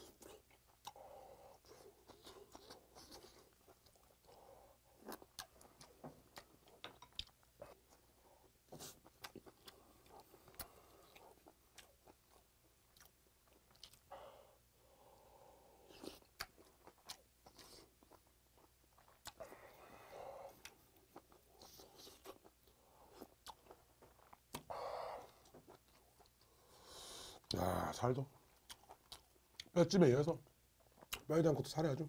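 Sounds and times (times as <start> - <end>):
person chewing with mouth clicks: 0.0 - 14.1, 15.9 - 19.7, 20.5 - 26.6, 28.4 - 29.8, 30.8 - 31.3.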